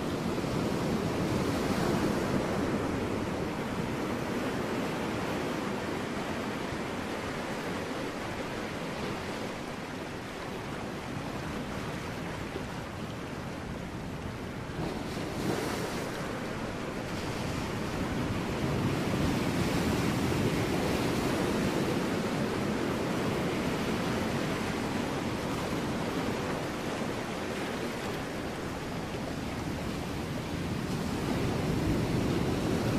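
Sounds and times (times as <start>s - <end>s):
surf washing on rocks: 0.0s - 32.9s.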